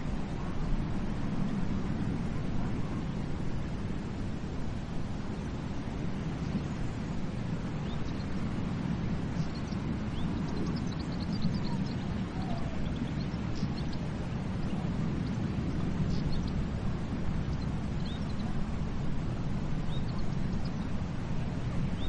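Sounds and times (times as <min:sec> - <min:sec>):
ocean surf washing on beach: 0:00.0 - 0:22.0.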